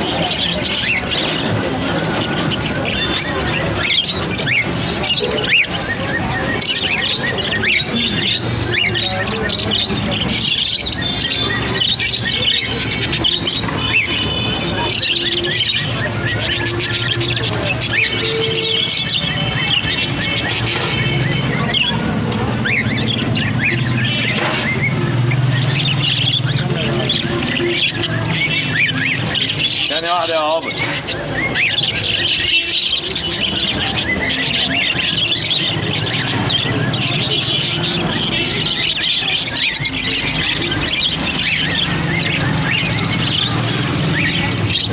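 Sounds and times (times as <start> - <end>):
parrots chirping and whistling: 0.0 - 44.9.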